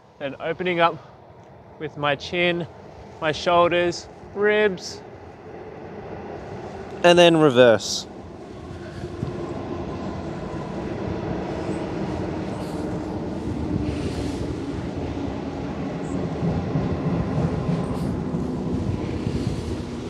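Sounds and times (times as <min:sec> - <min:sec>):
train rumbling on viaduct: 0:00.0 - 0:20.0.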